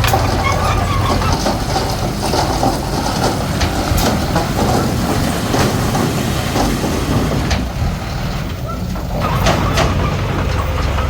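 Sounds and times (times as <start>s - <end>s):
bulldozer diesel engine rumbling: 0.0s - 11.0s
steel tracks clanking: 0.0s - 11.0s.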